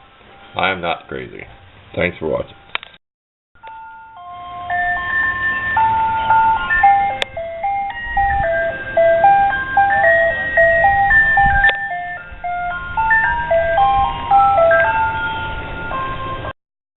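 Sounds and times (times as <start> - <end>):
ice cream truck chime melody: 0.0 - 2.8, 3.6 - 16.6.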